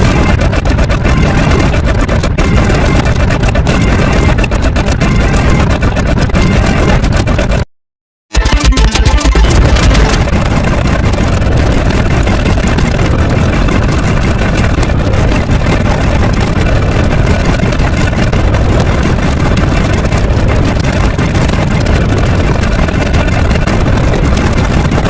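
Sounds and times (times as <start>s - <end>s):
dense engine-like rumbling: 0.0s - 7.6s, 8.4s - 25.0s.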